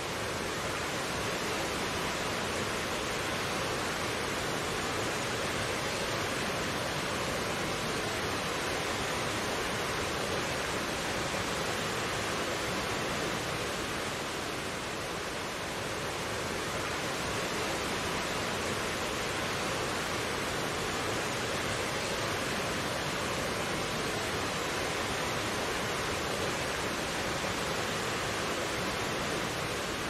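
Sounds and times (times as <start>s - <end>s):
stream water rushing over rocks: 0.0s - 30.0s.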